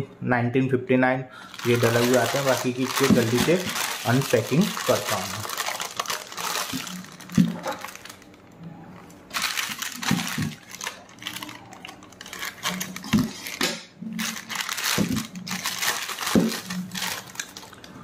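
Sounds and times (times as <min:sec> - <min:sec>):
plastic packaging crinkling: 0:01.4 - 0:18.0.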